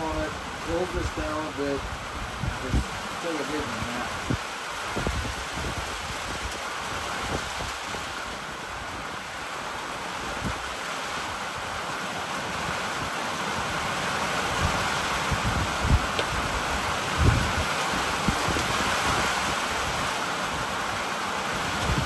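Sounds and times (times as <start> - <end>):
rain on a roof: 0.0 - 22.0.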